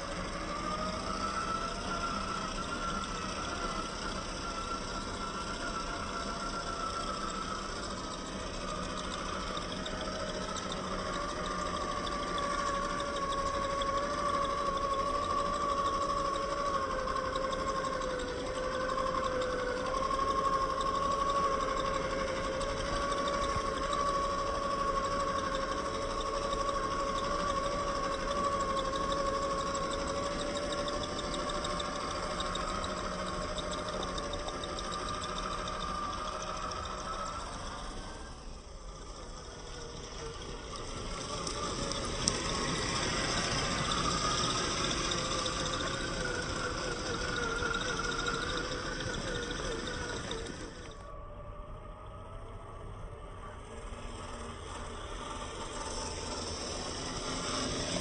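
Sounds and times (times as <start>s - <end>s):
toy car electric motor whining: 0.0s - 58.0s.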